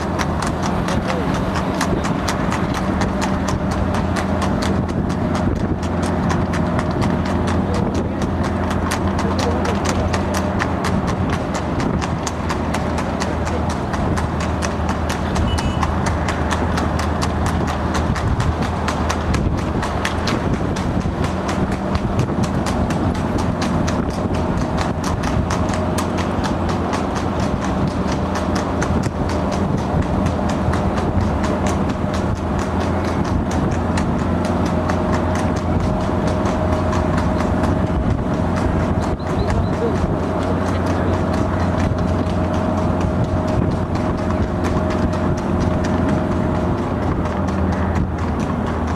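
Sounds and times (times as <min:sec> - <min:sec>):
fast even clicking: 0:00.0 - 0:48.9
horse hooves on wet tarmac: 0:00.0 - 0:48.9
vehicle engine humming: 0:00.0 - 0:48.9.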